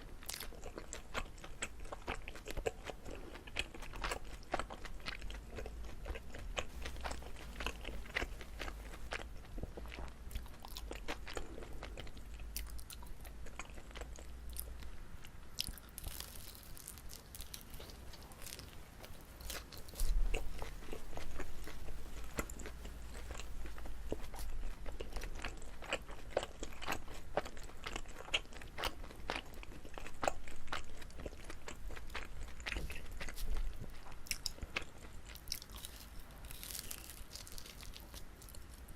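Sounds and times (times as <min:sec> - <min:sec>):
chewing with mouth clicks: 0:00.0 - 0:14.9, 0:15.6 - 0:38.9.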